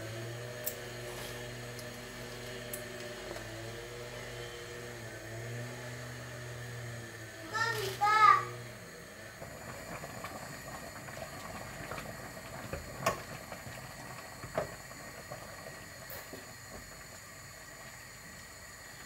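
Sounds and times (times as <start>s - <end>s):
pot bubbling at the boil: 0.0s - 19.0s.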